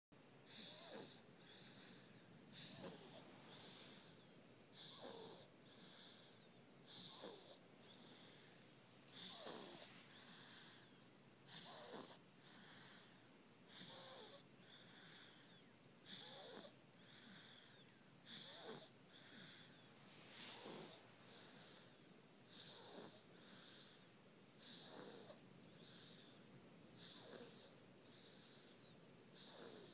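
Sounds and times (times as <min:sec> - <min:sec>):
baby snoring faintly: 0:00.4 - 0:29.9.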